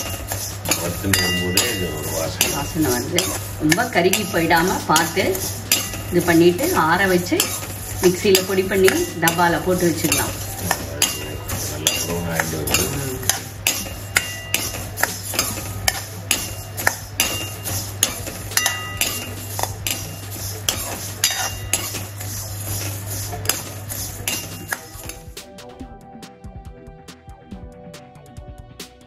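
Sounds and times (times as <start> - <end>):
spoon clinking against pan: 0.0 - 22.2, 23.4 - 25.3
seeds scraping and rattling in pan: 0.0 - 25.2
music: 0.0 - 29.0.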